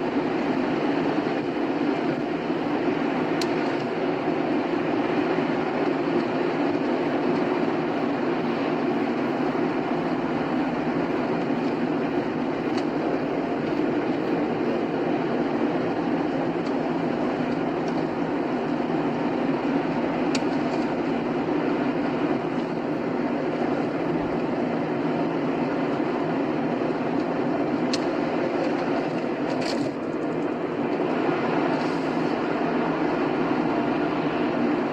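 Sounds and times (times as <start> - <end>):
car road noise at highway speed: 0.0 - 34.9.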